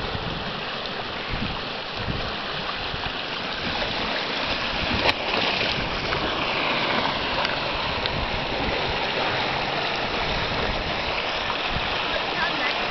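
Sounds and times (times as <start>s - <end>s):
surf churning between rocks: 0.0s - 12.9s.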